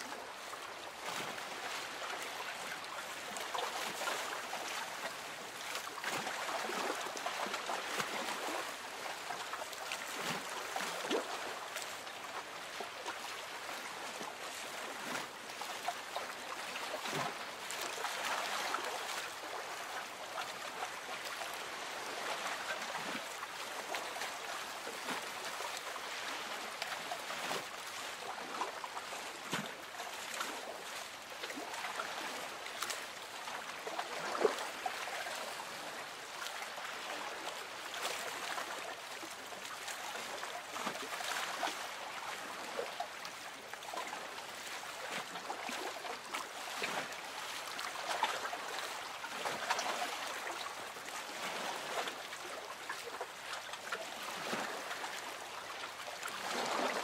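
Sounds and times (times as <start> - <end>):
water lapping against boat hull: 0.0 - 57.0.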